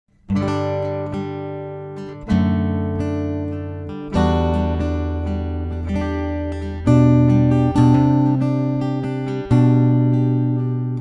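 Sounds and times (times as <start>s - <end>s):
acoustic guitar chords ringing: 0.2s - 11.0s.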